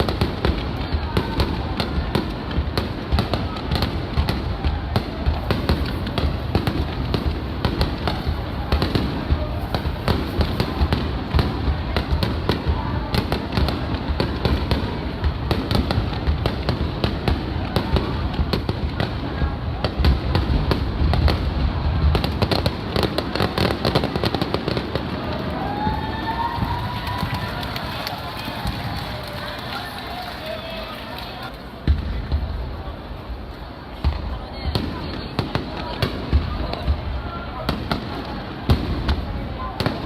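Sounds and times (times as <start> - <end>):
deep fireworks booms: 0.0 - 29.8, 31.8 - 40.0
fireworks crackling: 0.0 - 40.0.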